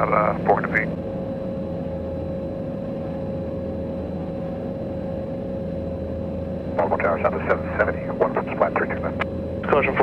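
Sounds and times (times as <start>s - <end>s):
aircraft engine and propeller droning: 0.0s - 10.0s.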